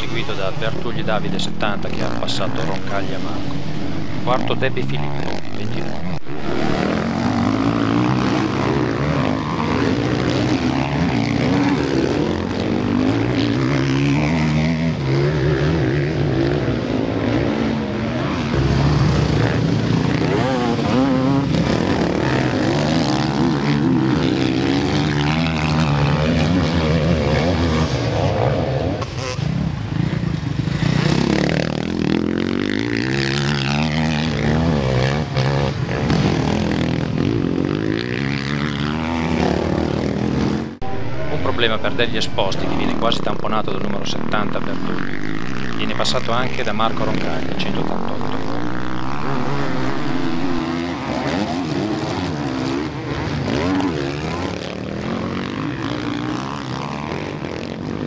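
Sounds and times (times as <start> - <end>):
motocross bikes revving past: 0.0 - 58.0.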